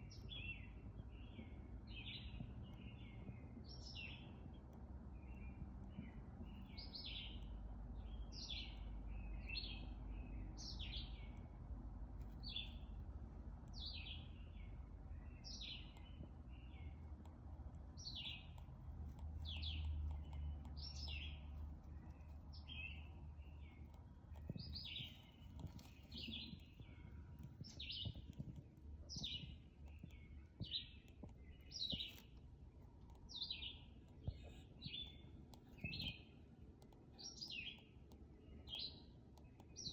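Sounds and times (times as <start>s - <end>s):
bird chirping: 0.0s - 4.6s, 5.2s - 11.6s, 12.4s - 12.9s, 13.7s - 17.3s, 17.9s - 39.9s
faint low rumble: 0.0s - 39.5s.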